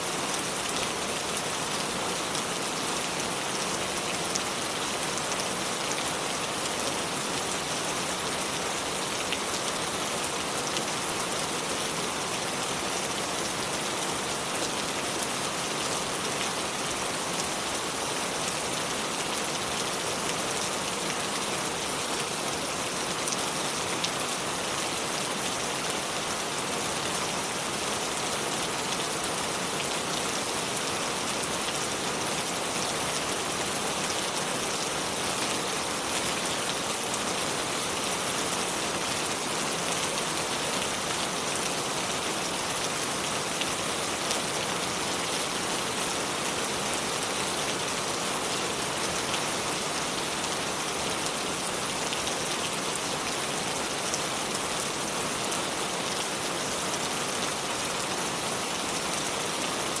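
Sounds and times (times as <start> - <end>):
river water flowing over stones: 0.0 - 60.0.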